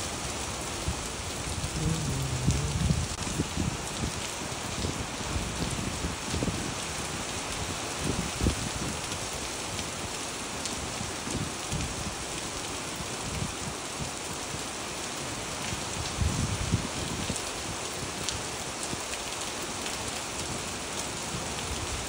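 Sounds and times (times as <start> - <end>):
rain on wet pavement: 0.0 - 22.0.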